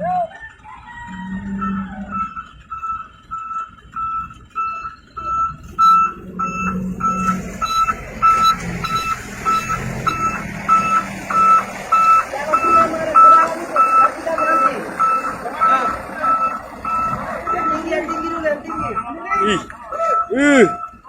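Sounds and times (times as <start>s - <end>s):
diesel engine running: 0.0s - 21.0s
truck reversing alarm beeping: 0.0s - 21.0s.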